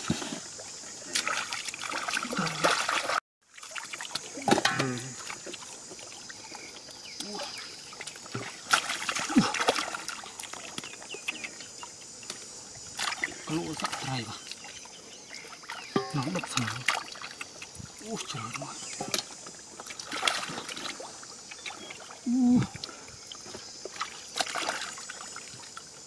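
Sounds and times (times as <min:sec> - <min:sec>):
muddy water splashing: 0:00.0 - 0:26.0.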